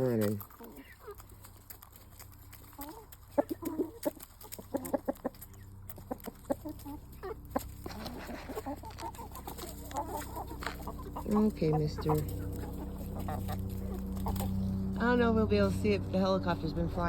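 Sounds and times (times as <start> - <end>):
chickens pecking feed: 0.0 - 15.7
chickens clucking: 0.0 - 17.0.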